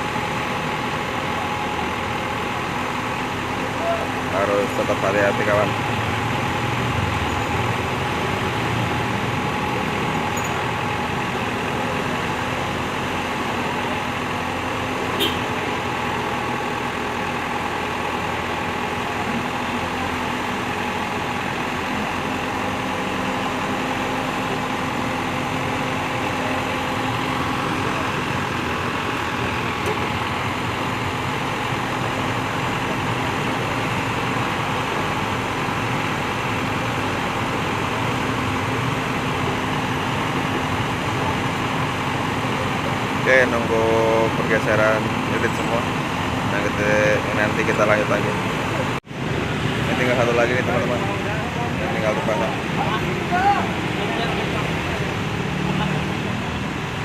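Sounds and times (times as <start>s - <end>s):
truck crane engine running: 0.0s - 57.0s.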